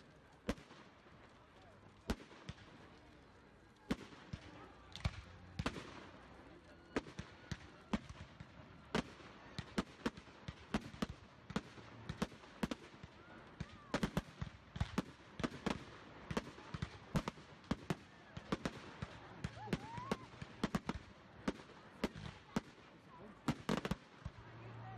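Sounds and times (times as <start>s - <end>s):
fireworks bangs: 0.0s - 24.9s.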